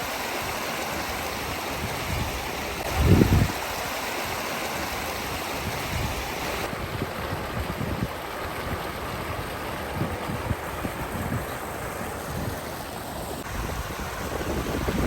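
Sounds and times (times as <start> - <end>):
waterfall rushing: 0.0 - 7.0, 8.2 - 15.0.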